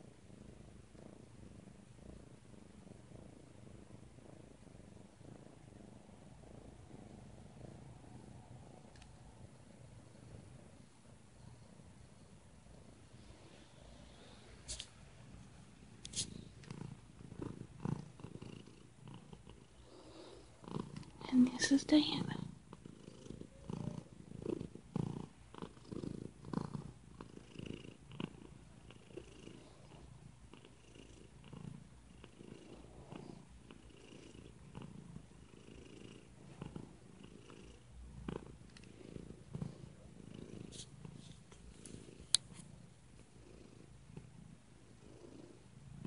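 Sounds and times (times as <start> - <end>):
cat purring: 0.0 - 46.0.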